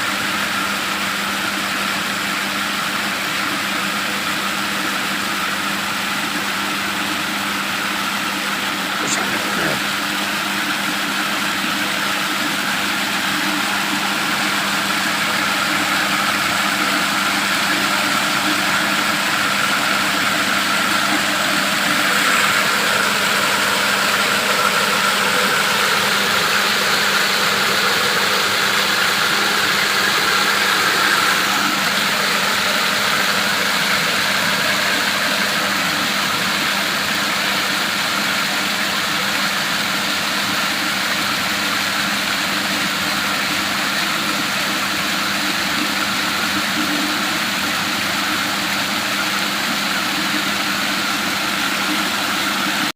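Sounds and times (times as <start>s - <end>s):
machine humming and whirring: 2.1s - 52.9s.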